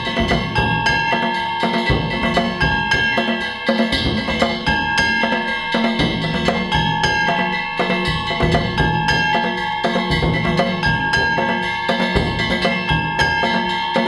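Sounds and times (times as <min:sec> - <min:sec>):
hand-struck gongs ringing: 0:00.0 - 0:14.0
taiko drums: 0:00.0 - 0:14.0.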